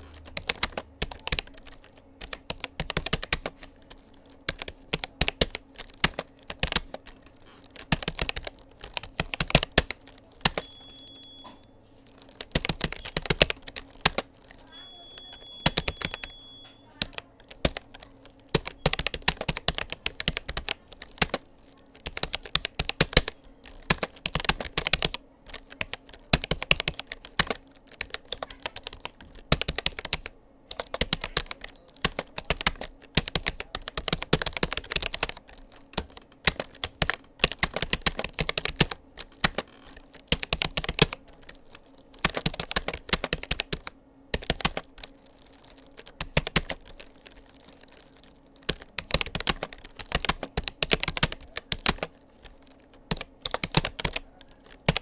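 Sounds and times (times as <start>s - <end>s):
keyboard typing clicks: 0.0s - 55.0s.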